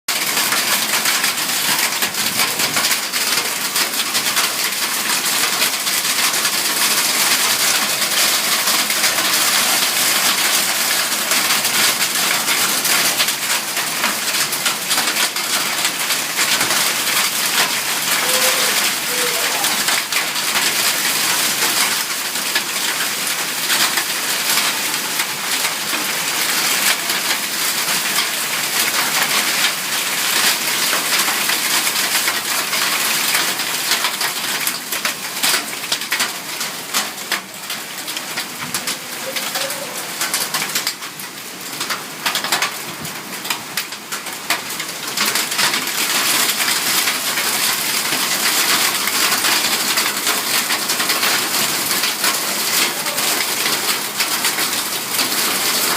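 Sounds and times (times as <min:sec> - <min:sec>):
hailstones striking hard surfaces: 0:00.1 - 0:55.9
heavy rain: 0:00.1 - 0:55.9.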